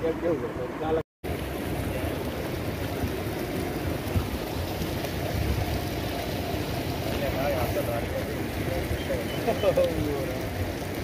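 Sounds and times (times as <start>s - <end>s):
hiss of open water: 1.2s - 11.0s
wind rumble on microphone: 1.3s - 11.0s.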